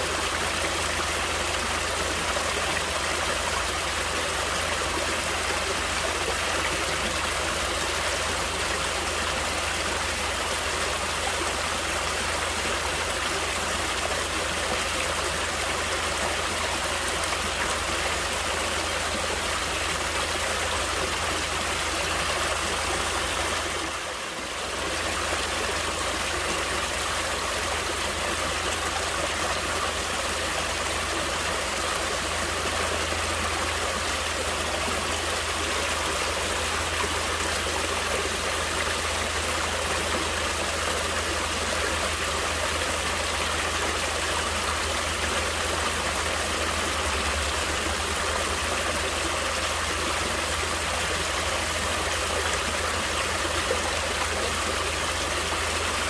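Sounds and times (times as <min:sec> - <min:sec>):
stream water flowing and splashing: 0:00.0 - 0:56.0.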